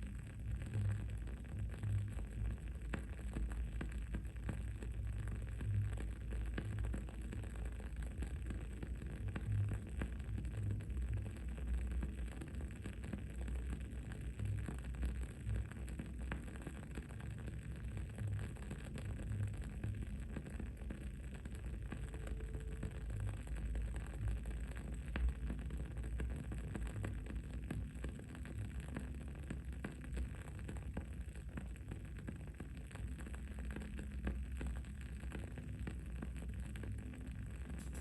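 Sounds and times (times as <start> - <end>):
candle crackling: 0.0 - 38.0
low background rumble: 0.0 - 38.0.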